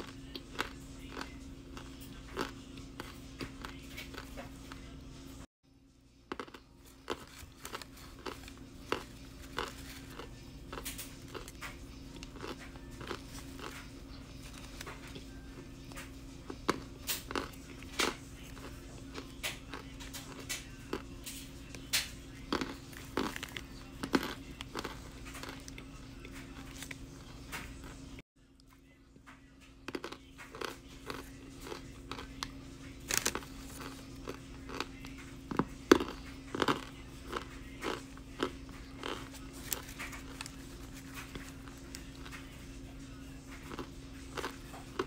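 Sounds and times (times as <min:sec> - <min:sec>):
crisp crunches of chewing: 0:00.0 - 0:04.8, 0:06.3 - 0:28.0, 0:29.9 - 0:45.0.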